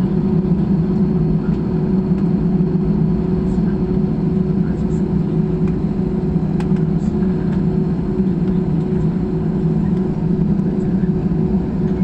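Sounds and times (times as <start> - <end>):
jet engine cabin rumble: 0.0 - 12.0
steady cabin hum: 0.0 - 12.0.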